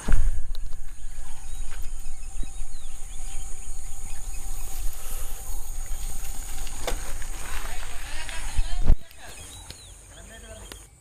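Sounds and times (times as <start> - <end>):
wind buffeting microphone: 0.0 - 10.0
insects droning: 0.0 - 11.0.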